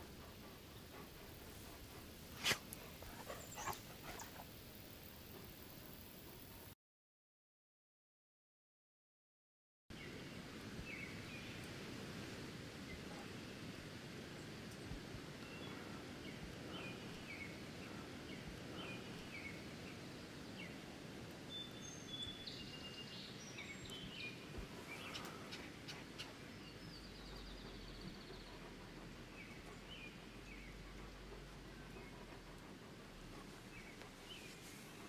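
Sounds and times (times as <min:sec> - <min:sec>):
low rumble and hiss: 0:00.0 - 0:06.7, 0:10.0 - 0:35.0.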